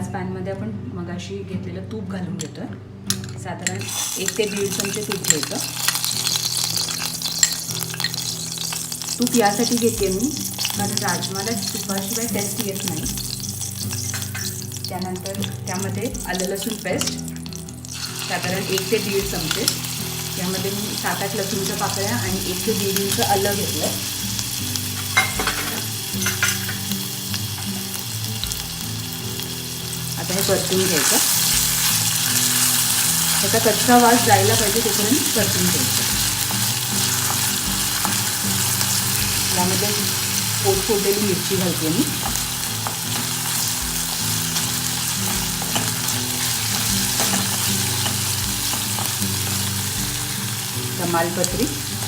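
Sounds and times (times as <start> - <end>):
paste sizzling in hot oil: 3.7 - 52.0.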